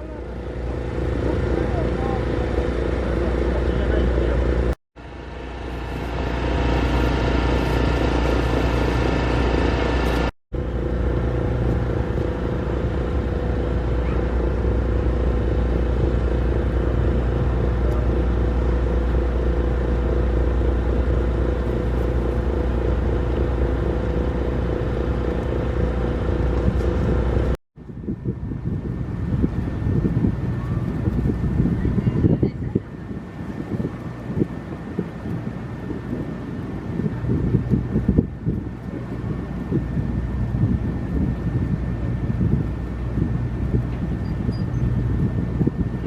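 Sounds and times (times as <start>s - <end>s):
large engine droning: 0.0s - 46.0s.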